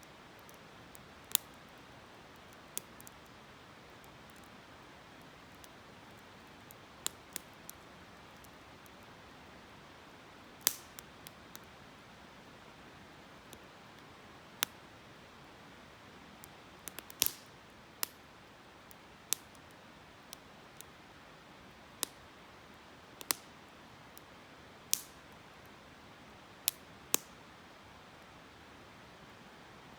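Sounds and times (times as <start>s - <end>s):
campfire wood crackling: 0.0s - 28.8s
soft steady hiss: 0.0s - 29.9s.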